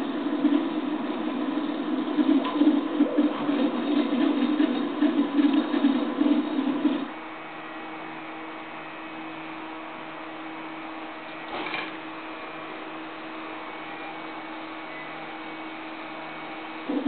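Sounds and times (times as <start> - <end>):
stepper motors humming: 0.0 - 17.0.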